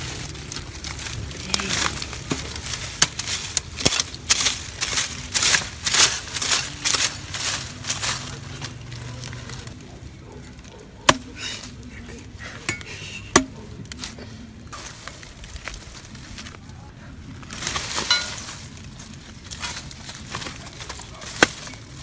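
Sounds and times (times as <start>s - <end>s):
footsteps crunching dry leaves: 0.0s - 22.0s
leaves rustling: 0.0s - 22.0s.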